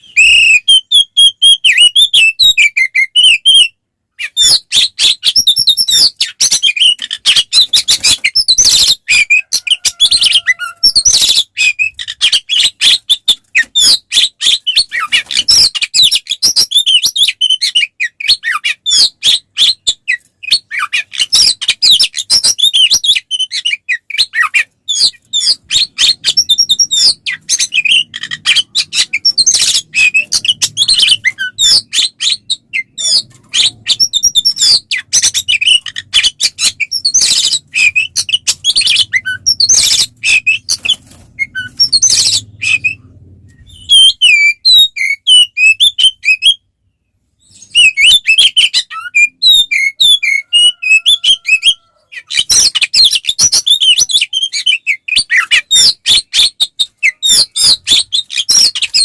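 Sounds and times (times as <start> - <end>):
magpie-robin singing: 0.0 - 59.0.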